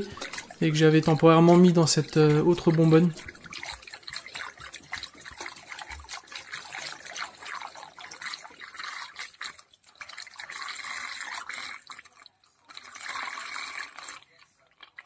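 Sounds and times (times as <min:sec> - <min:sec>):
water pouring into plastic funnel: 0:00.0 - 0:15.0.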